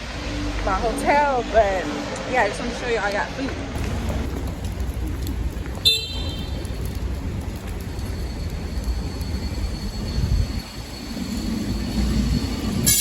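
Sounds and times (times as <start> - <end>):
street traffic rumbling: 0.0 - 13.0.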